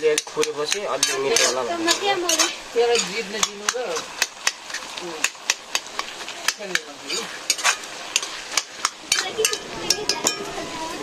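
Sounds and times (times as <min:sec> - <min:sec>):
food sizzling in oil: 0:00.0 - 0:11.0
ladle scraping and clinking pan: 0:00.2 - 0:04.8, 0:06.0 - 0:10.6.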